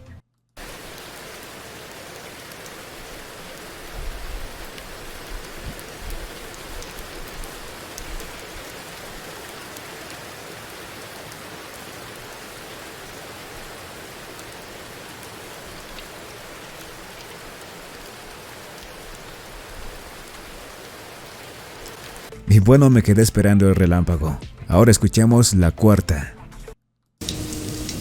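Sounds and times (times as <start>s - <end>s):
heavy rain downpour: 0.6s - 22.3s, 27.2s - 28.0s.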